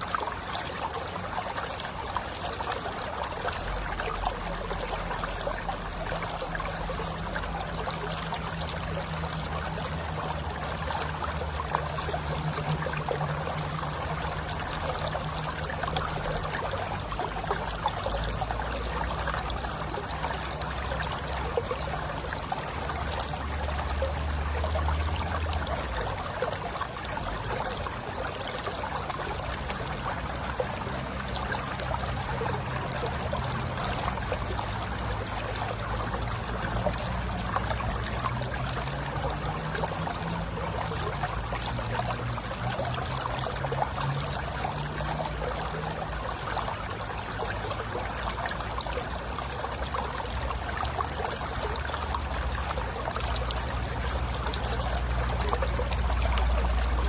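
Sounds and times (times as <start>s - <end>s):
river gurgling over rocks: 0.0s - 57.0s.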